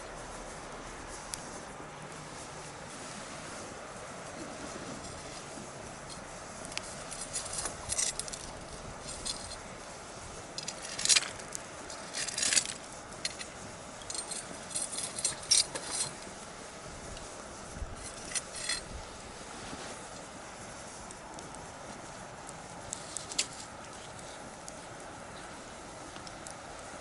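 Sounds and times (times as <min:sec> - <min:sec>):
bonfire crackling and popping: 0:00.0 - 0:27.0
low hiss: 0:00.0 - 0:27.0.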